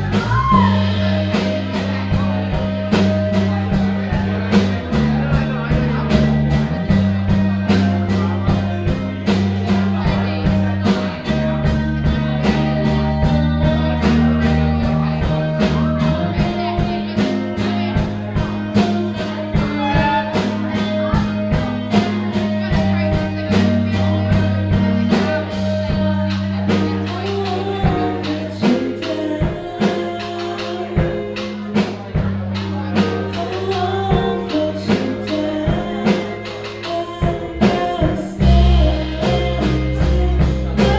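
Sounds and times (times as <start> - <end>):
bass guitar: 0.0 - 40.9
drums keeping a steady beat: 0.0 - 40.9
electric guitars: 0.0 - 40.9.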